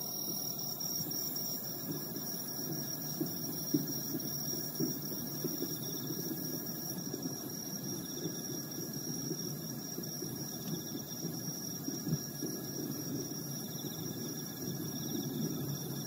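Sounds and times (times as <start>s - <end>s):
high insect chirr: 0.0s - 16.0s.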